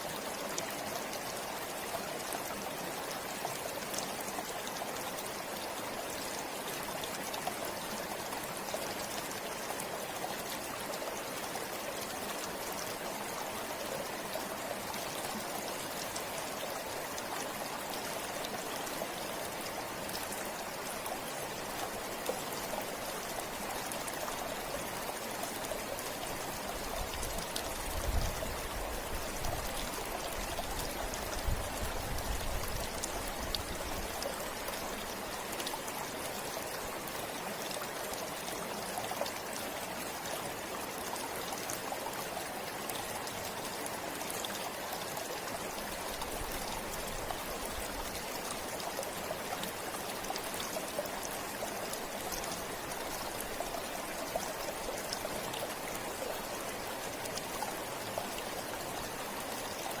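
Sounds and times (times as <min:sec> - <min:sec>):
river flowing over rocks: 0:00.0 - 1:00.0.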